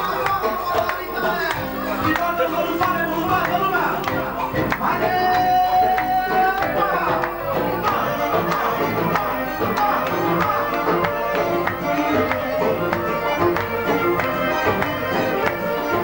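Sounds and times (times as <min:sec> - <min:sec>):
quick steady drum beat: 0:00.0 - 0:15.9.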